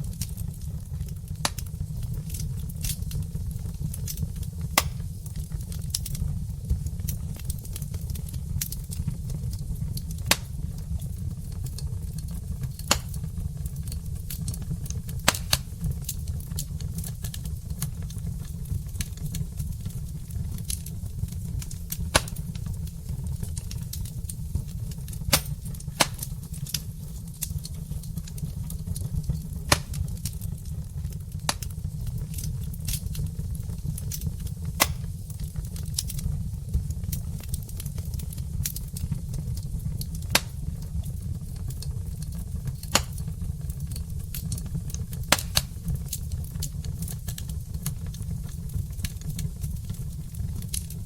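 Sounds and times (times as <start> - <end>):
fire low rumble: 0.0 - 51.0
logs crackling and popping: 0.0 - 51.0.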